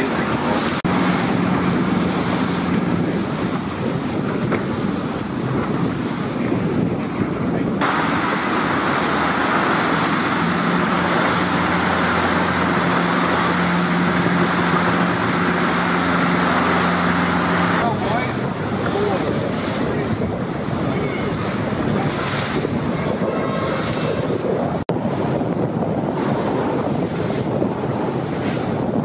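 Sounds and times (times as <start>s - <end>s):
boat engine hum: 0.0s - 29.0s
water rushing past boat: 0.0s - 29.0s
wind buffeting microphone: 0.0s - 29.0s.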